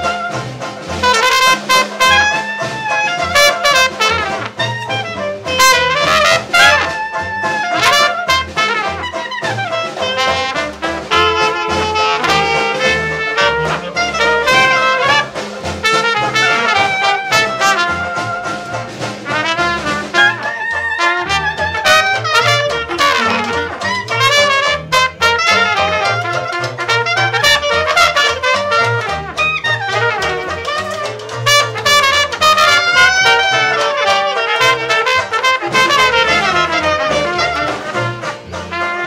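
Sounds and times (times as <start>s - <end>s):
clarinet: 0.0s - 39.0s
plucked double bass: 0.0s - 39.0s
snare drum: 0.0s - 39.0s
trumpet: 0.0s - 39.0s.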